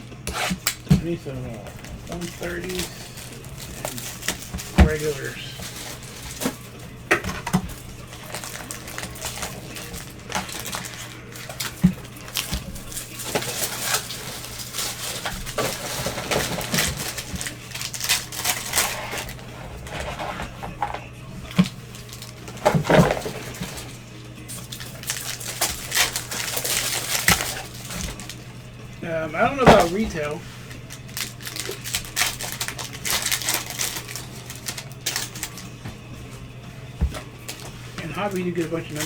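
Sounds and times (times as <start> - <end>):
cards and packaging handled: 0.1 - 39.0.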